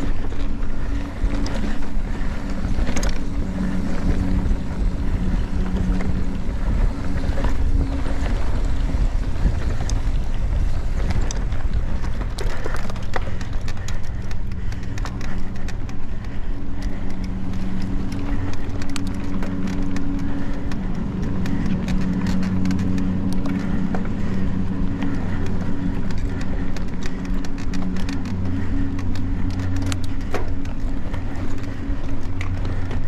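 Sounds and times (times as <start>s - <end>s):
bike knocking and rattling: 0.0s - 33.0s
bike tyres rolling on dirt: 0.0s - 33.0s
steady low buzz: 0.0s - 33.0s.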